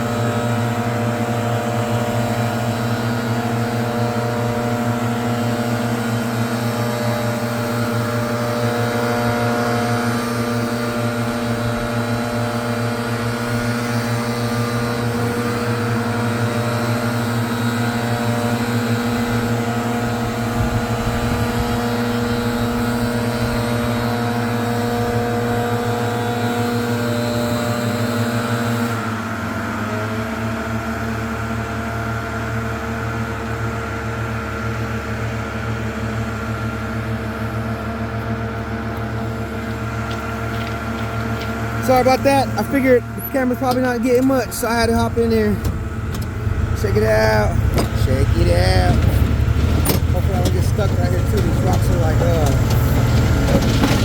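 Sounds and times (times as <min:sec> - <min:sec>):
leaf blower engine running: 0:00.0 - 0:54.0.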